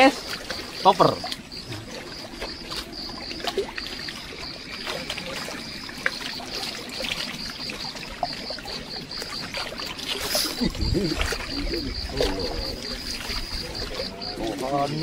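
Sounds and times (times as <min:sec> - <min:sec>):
small waves lapping on rocks: 0:00.0 - 0:15.0.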